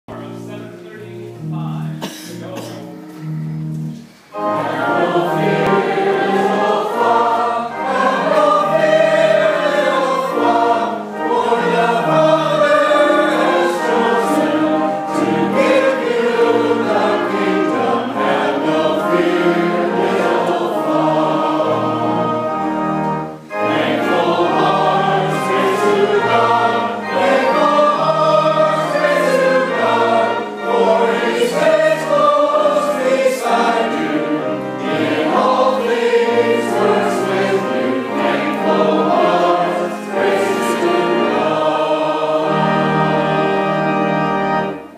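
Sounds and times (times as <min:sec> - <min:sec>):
pipe organ: 0:00.1 - 0:44.9
people singing a hymn: 0:04.3 - 0:44.9.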